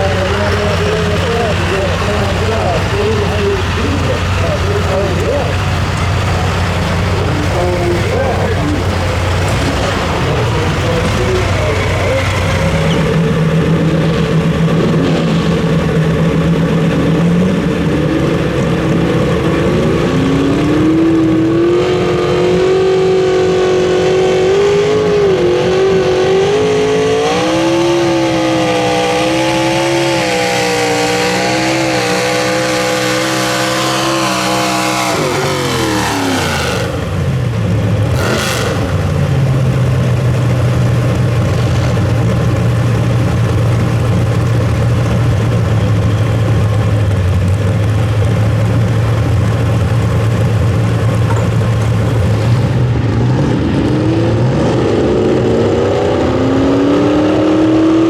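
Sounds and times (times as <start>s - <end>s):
truck engine at full throttle: 0.0s - 58.0s.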